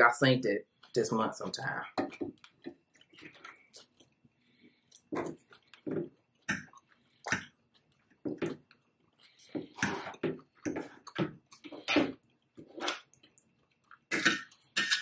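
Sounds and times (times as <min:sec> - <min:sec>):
chewing and mouth smacks: 0:02.4 - 0:15.0.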